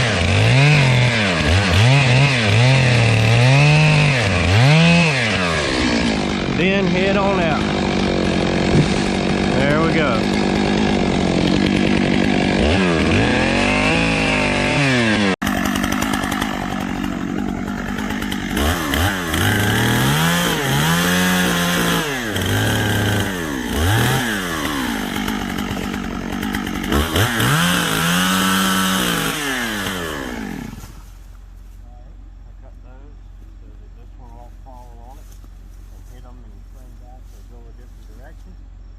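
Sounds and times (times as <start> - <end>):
chainsaw cutting wood: 0.0 - 31.6.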